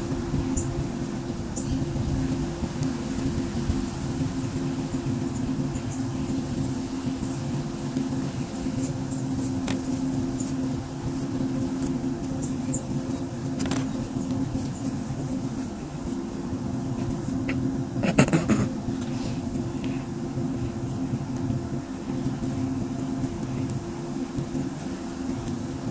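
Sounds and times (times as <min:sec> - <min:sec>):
low mechanical hum: 0:00.0 - 0:25.9.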